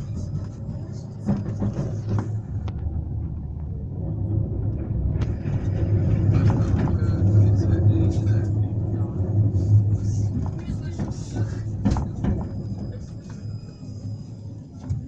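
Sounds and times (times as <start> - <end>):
tram running gear rumble: 0.0 - 15.0.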